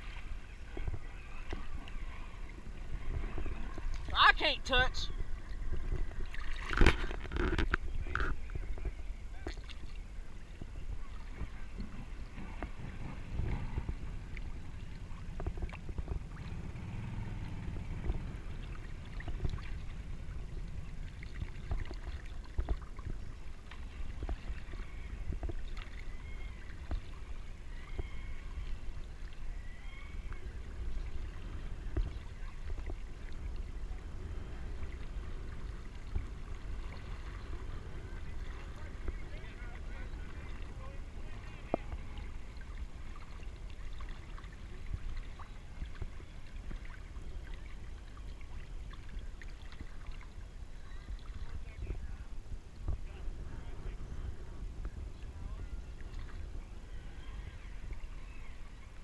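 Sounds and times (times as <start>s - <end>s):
lake water lapping: 0.0s - 59.0s.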